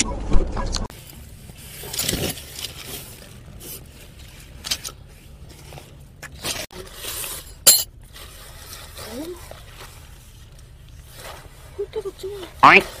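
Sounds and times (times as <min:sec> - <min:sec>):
objects scraping and rustling: 0:00.7 - 0:13.0.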